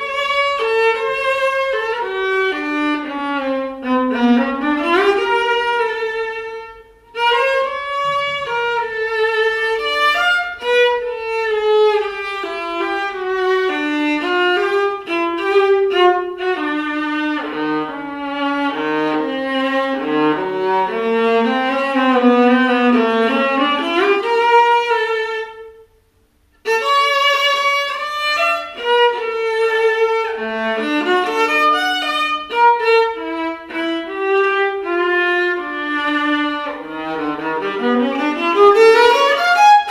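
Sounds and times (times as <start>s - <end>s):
bowed viola melody: 0.0s - 26.0s, 26.6s - 39.9s.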